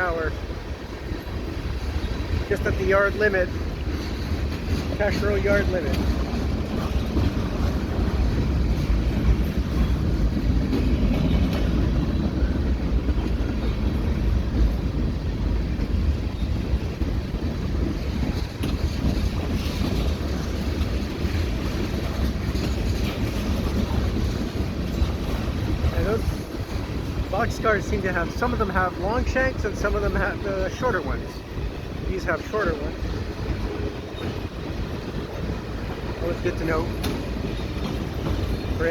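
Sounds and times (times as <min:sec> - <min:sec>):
freight train wheels rumbling: 0:00.0 - 0:38.9
wind on microphone: 0:00.0 - 0:38.9.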